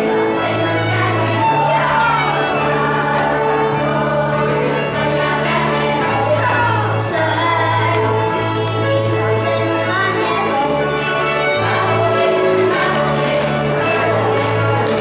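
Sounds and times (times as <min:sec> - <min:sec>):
fiddle-led folk music: 0:00.0 - 0:15.0.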